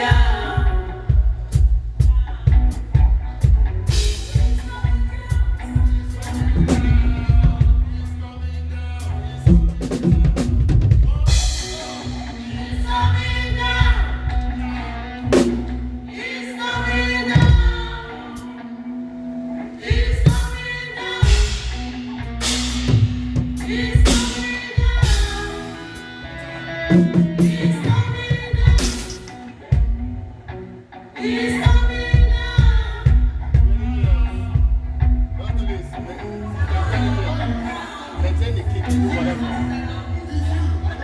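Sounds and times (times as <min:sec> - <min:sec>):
person singing: 0:00.0 - 0:19.0, 0:19.7 - 0:30.1, 0:31.0 - 0:41.0
sustained bass notes: 0:00.0 - 0:41.0.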